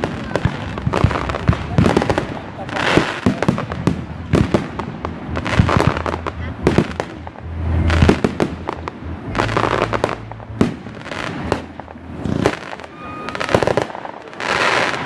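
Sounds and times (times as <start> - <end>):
fireworks bangs with crackling tails: 0.0 - 15.0.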